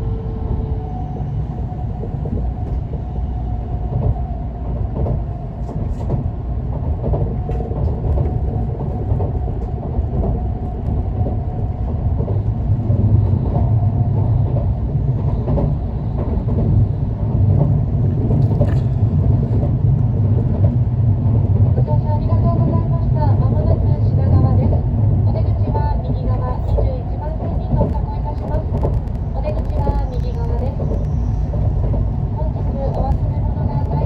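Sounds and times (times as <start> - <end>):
train cabin rumble: 0.0 - 34.0.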